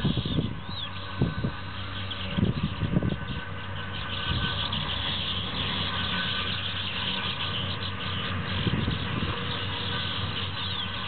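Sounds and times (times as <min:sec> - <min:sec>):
high chattering buzzing chorus: 0:00.0 - 0:11.0
steady low rumble: 0:00.0 - 0:11.0.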